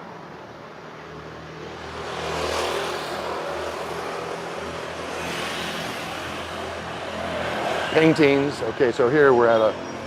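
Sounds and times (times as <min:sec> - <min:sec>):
vehicle passing by: 0:01.1 - 0:10.0.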